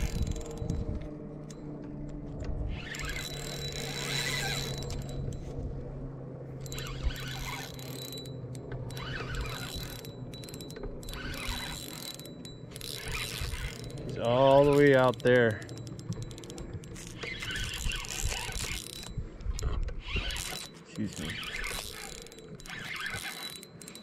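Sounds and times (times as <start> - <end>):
fishing reel gears clicking: 0.0 - 1.7, 2.7 - 5.5, 6.6 - 24.0
steady low hum: 0.0 - 24.0.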